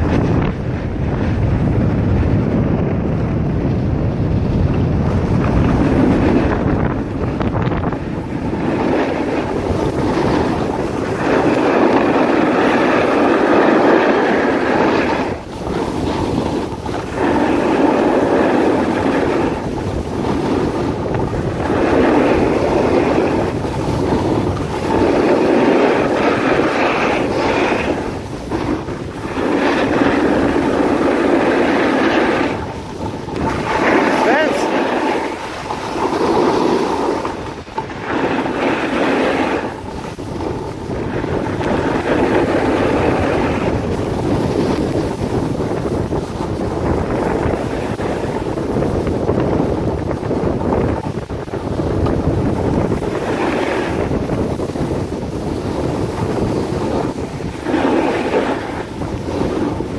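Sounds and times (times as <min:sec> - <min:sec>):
skis scraping over snow: 0:00.0 - 0:59.9
wind on microphone: 0:00.0 - 0:59.9.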